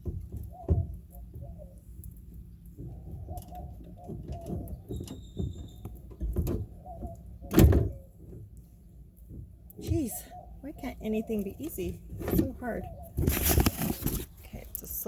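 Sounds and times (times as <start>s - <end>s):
car parts knocking and scraping: 0.0s - 10.5s, 11.1s - 15.0s.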